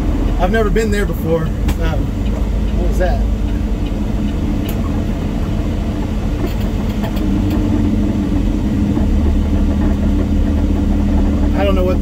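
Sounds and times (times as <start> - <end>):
road noise: 0.0 - 12.0
truck diesel engine rumbling: 0.0 - 12.0.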